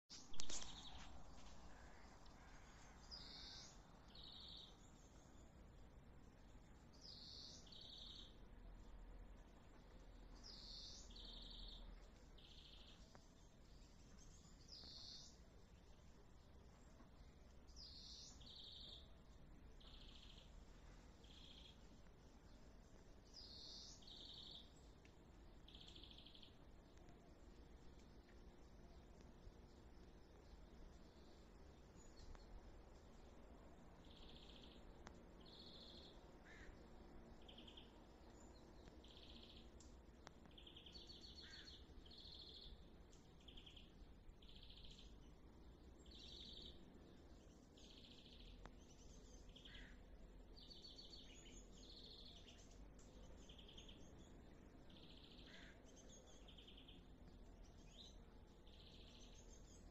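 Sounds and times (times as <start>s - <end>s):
low background noise: 0.1s - 59.9s
low outdoor rumble: 0.1s - 59.9s.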